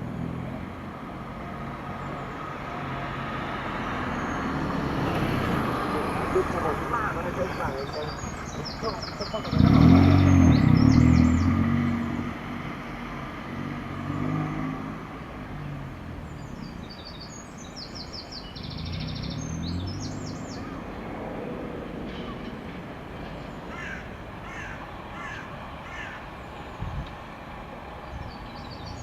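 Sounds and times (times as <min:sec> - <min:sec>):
diesel locomotive engine passing: 0:00.0 - 0:29.0.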